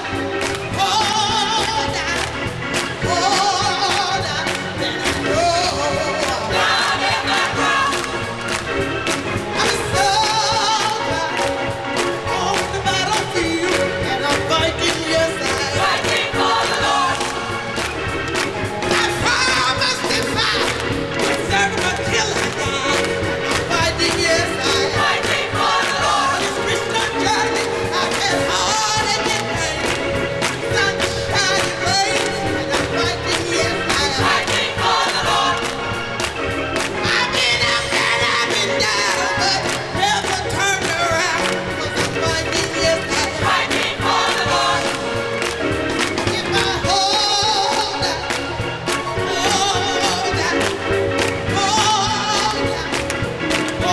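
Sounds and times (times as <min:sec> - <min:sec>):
gospel choir singing: 0:00.0 - 0:53.9
instrumental accompaniment with beat: 0:00.0 - 0:53.9.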